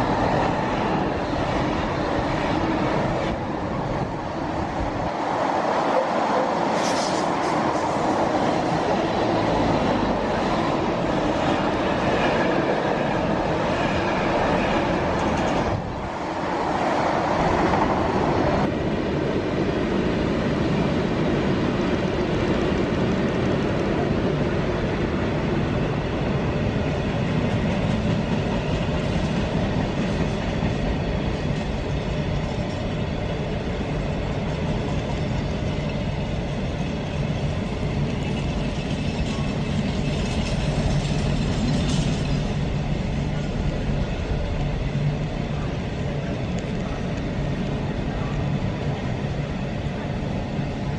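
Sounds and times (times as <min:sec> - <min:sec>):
clickety-clack of rails: 0:00.0 - 0:50.9
train wheels rumbling on track: 0:00.0 - 0:50.9.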